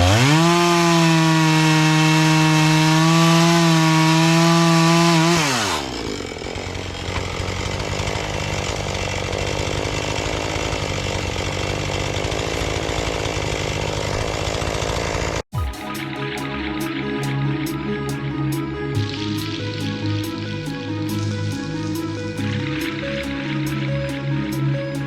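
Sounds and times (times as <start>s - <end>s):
chainsaw running: 0.0s - 15.5s, 16.1s - 25.0s.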